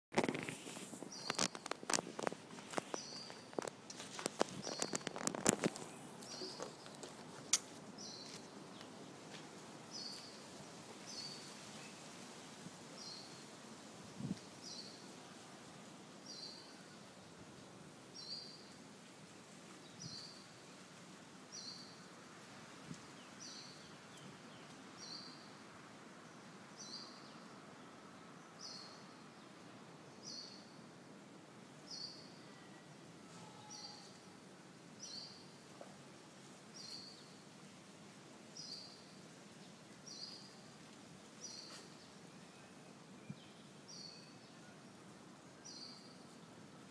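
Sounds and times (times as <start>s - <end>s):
faint outdoor background noise: 0.1s - 46.9s.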